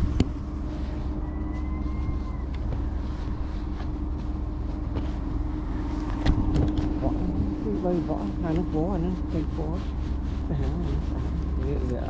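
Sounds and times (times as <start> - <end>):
motor running with low hum: 0.0 - 12.0.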